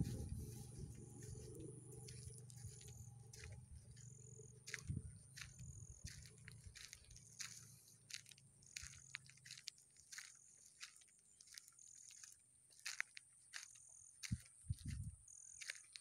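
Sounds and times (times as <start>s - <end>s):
footsteps through dry grass: 0.0s - 16.0s.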